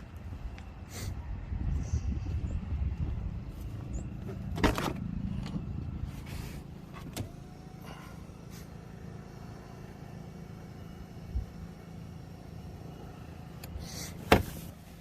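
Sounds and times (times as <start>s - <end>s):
car engine hum from inside: 0.0s - 15.0s.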